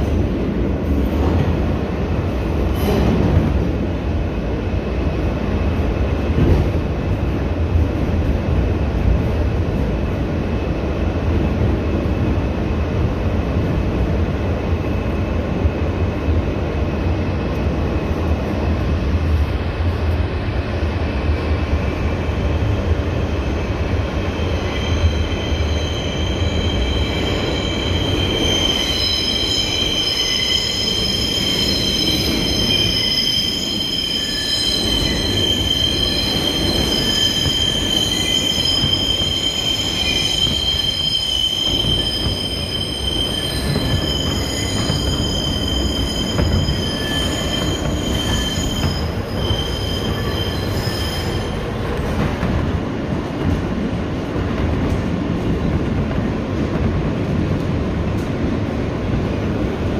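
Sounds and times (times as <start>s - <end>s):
subway train wheels rumbling: 0.0s - 59.9s.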